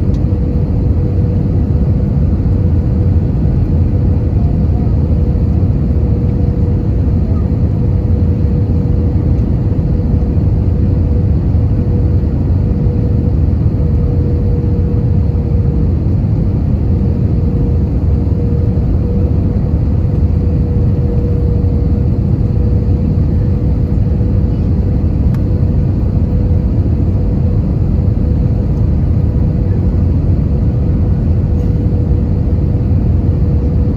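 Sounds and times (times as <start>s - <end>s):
aircraft cabin engine rumble: 0.0s - 33.9s.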